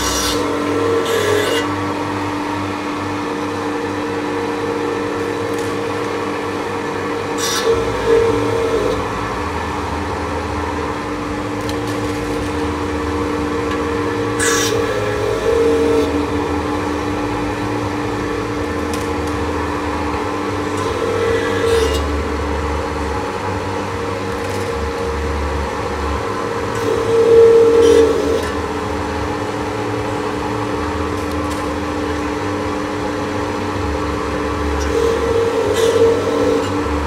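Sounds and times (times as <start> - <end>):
wire stripping machine humming: 0.0 - 37.0.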